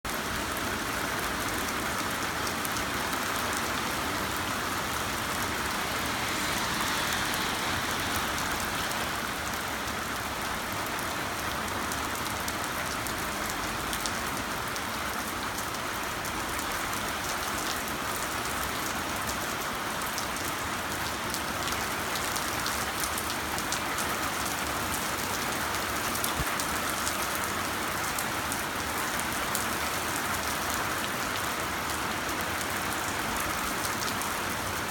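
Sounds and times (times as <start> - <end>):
heavy rain on hard surfaces: 0.0 - 34.9.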